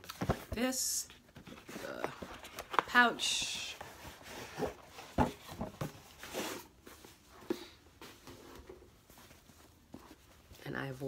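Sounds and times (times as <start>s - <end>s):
cloth rustling: 1.3s - 11.0s.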